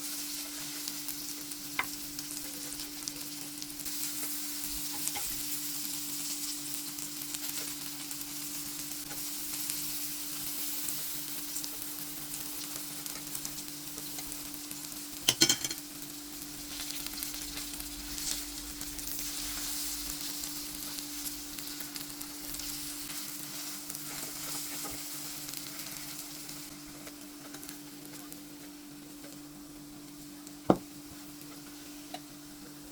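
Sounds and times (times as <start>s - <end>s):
food sizzling in hot oil: 0.0s - 32.9s.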